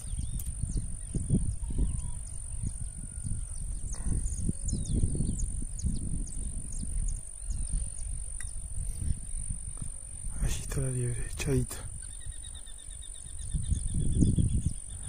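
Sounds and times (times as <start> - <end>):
small birds chirping: 0.0 - 15.0
wind buffeting microphone: 0.0 - 15.0.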